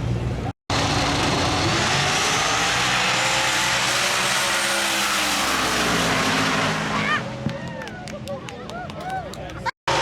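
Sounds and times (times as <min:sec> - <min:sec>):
drag race car engines: 0:00.0 - 0:10.0.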